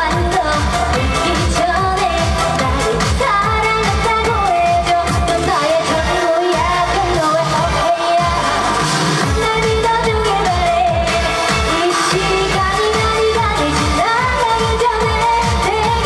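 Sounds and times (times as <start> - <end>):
backing track with drum beat: 0.0 - 16.0
woman singing: 0.0 - 16.0.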